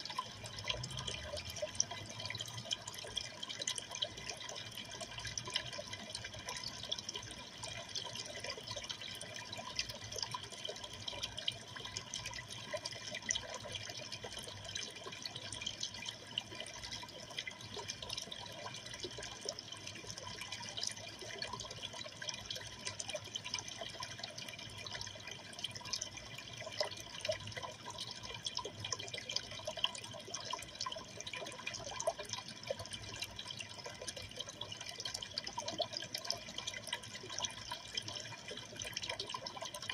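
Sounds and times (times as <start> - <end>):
small water drips: 0.0 - 39.9
water trickling in aquarium: 0.0 - 39.9.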